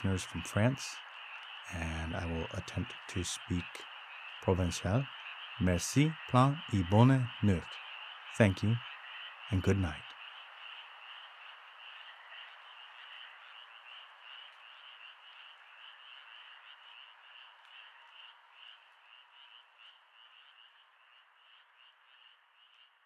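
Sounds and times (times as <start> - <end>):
background chorus of frogs: 0.0 - 23.0
frogs pulsing calls: 0.0 - 23.0.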